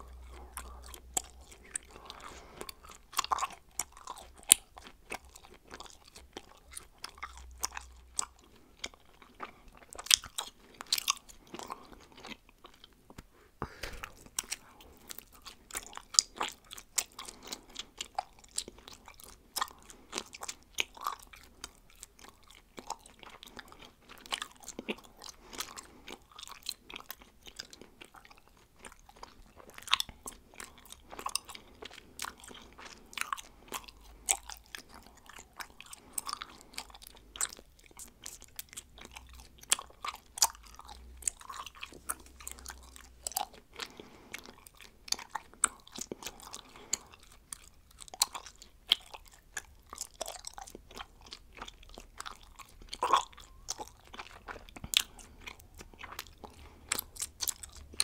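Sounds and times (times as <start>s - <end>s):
bubblegum chewing smacks: 0.0s - 58.0s.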